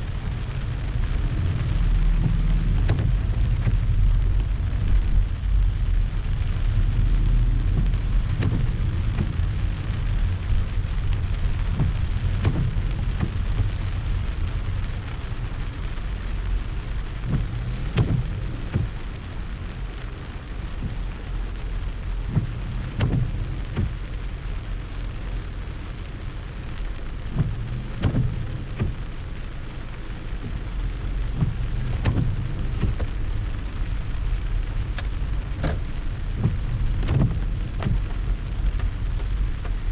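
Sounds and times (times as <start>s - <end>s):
heavy rain falling: 0.0s - 39.9s
raindrops tapping nearby: 0.0s - 39.9s.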